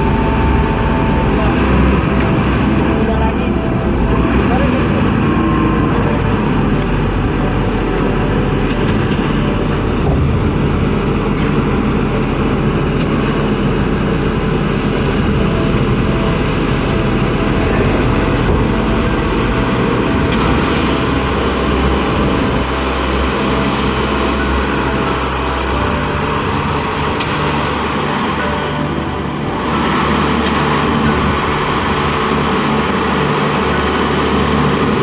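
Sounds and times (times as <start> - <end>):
crane diesel engine rumbling: 0.0 - 35.0.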